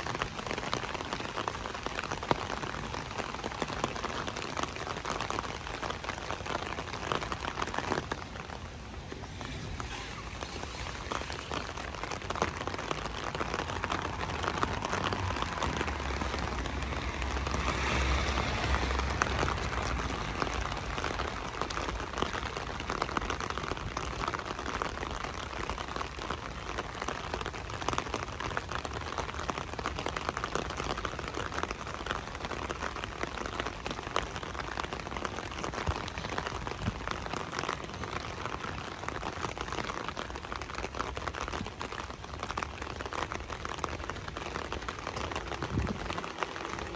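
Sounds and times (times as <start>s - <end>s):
light rain pattering: 0.0s - 46.9s.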